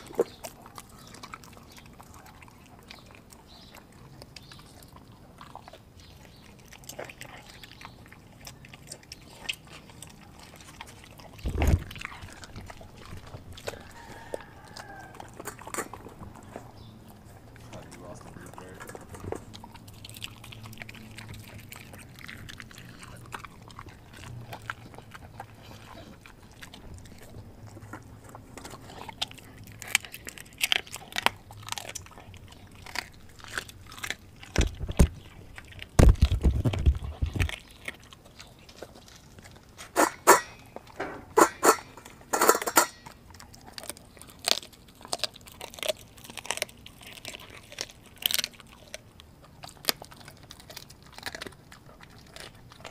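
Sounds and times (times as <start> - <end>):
dog chewing and crunching meat: 0.0 - 52.9.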